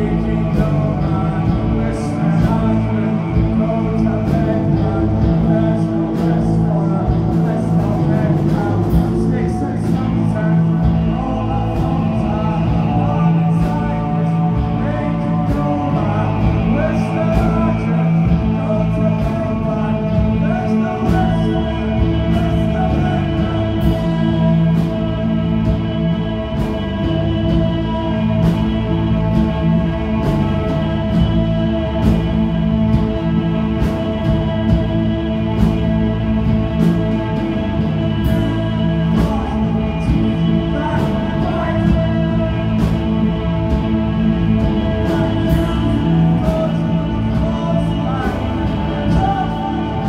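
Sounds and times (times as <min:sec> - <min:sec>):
bass guitar: 0:00.0 - 0:50.0
drums: 0:00.0 - 0:50.0
electric guitars: 0:00.0 - 0:50.0.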